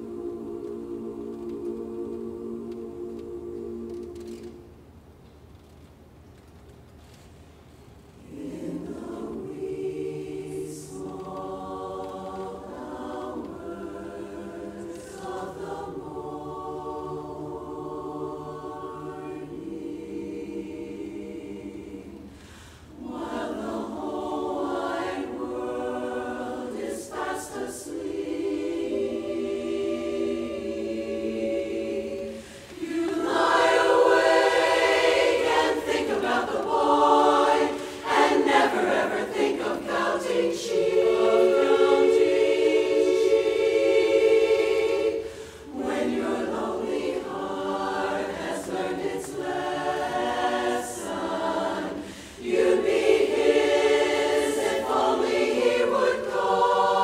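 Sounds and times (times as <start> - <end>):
women's chorus singing a cappella: 0.0 - 4.8, 8.2 - 57.0.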